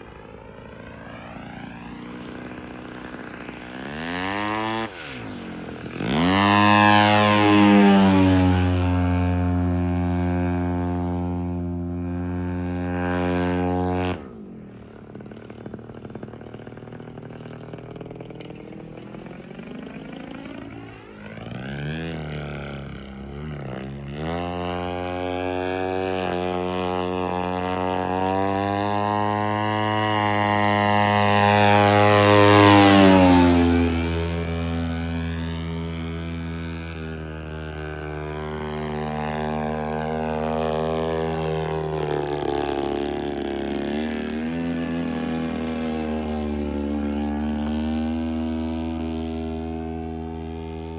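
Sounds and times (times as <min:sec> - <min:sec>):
model airplane engine: 0:00.0 - 0:50.9.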